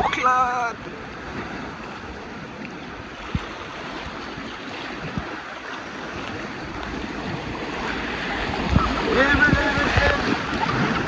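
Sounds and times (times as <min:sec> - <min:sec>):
river water rushing in rapids: 0:00.0 - 0:11.0.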